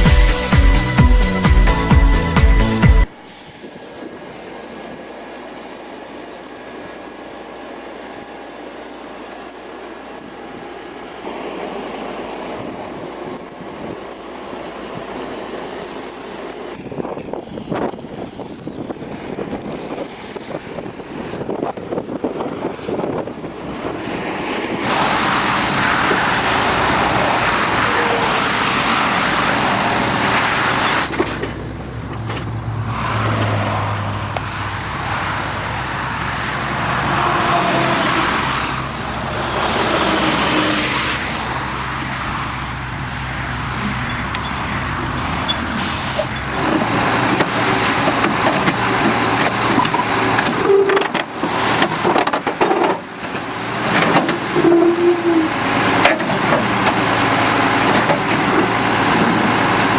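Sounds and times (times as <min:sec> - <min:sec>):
heavy machinery running: 0:06.0 - 0:59.9.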